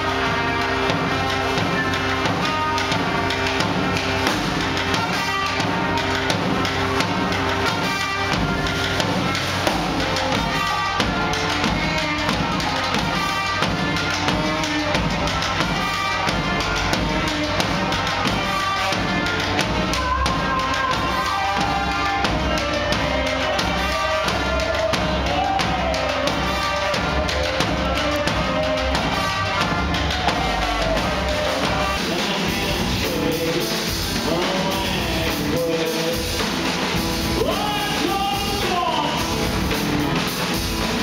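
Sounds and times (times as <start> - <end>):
brass band playing: 0.0 - 41.0
cymbals: 0.0 - 41.0
steady drum beat: 0.0 - 41.0.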